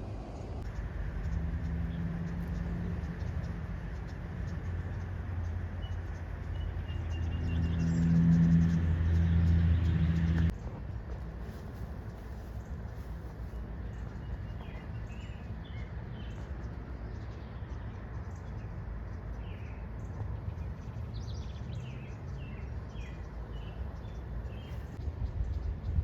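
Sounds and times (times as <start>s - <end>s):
outdoor background rumble: 0.0s - 26.0s
small birds chirping: 0.4s - 26.0s.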